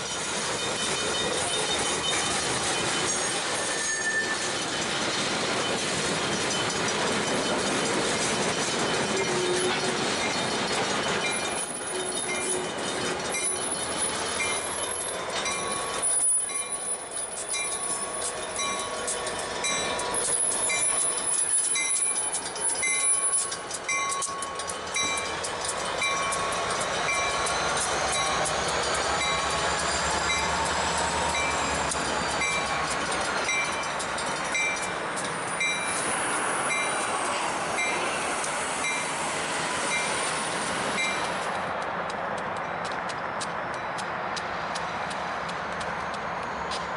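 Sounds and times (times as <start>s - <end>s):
train wheels squealing: 0.0s - 41.7s, 42.6s - 46.9s
grade-crossing bell ringing: 0.0s - 41.8s
locomotive engine rumble: 0.0s - 46.9s
rail-joint clicks: 0.0s - 46.9s.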